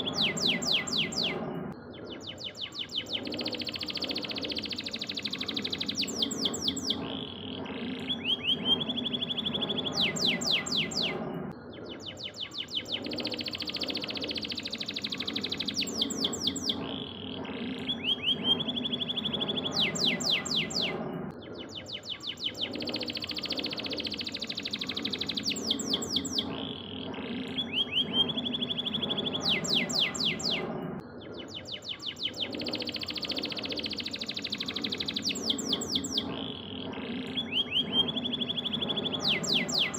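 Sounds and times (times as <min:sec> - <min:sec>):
canary singing: 0:00.0 - 0:30.8, 0:31.4 - 0:39.9
steady low hum: 0:00.0 - 0:39.9.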